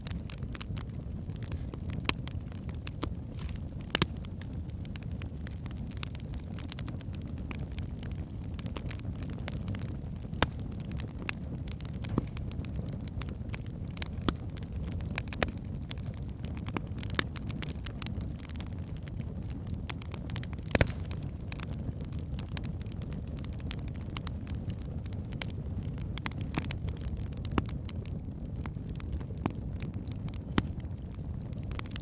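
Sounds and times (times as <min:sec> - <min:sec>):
fire flames rumbling: 0:00.0 - 0:32.0
logs crackling and popping: 0:00.0 - 0:32.0.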